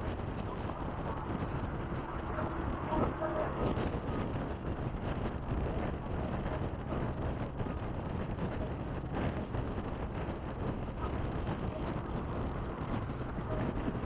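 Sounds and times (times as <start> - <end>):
bus engine: 0.0 - 14.0
wind noise: 0.0 - 14.0.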